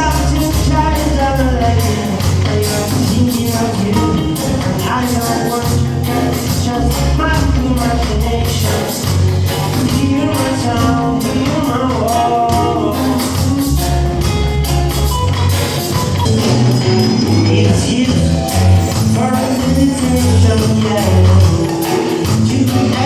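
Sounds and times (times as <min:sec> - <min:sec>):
deep bass line: 0:00.0 - 0:23.0
melodic instruments: 0:00.0 - 0:23.0
steady drum beat: 0:00.0 - 0:23.0.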